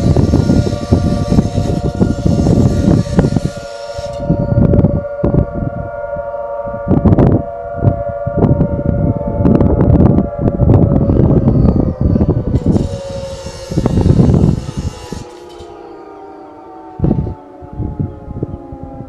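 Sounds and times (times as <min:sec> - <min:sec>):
air raid siren wailing: 0:00.0 - 0:19.0
heavy low rumbling gusts: 0:00.0 - 0:19.0.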